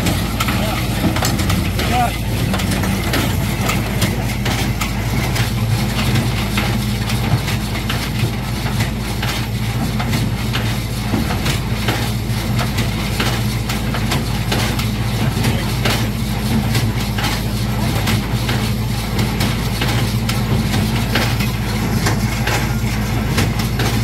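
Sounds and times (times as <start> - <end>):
baler mechanism clacking: 0.0 - 24.0
tractor diesel engine running: 0.0 - 24.0.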